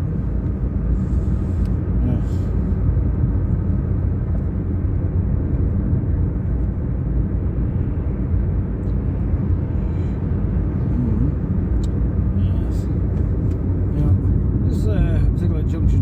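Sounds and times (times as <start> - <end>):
car engine rumble: 0.0 - 16.0
tyre road noise: 0.0 - 16.0.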